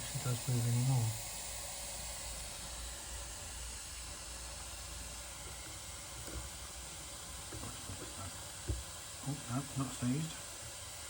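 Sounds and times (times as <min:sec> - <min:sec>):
steam hissing from boiler: 0:00.0 - 0:11.0.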